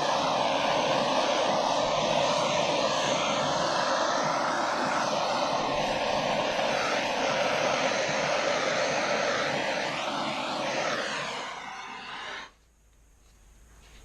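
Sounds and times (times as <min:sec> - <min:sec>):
air blower rushing: 0:00.0 - 0:12.6.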